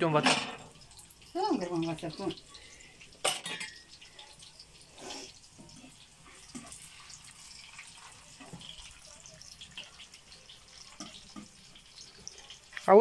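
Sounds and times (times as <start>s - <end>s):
meat sizzling in oil: 0.0s - 13.0s
small crackles and pops: 0.6s - 13.0s.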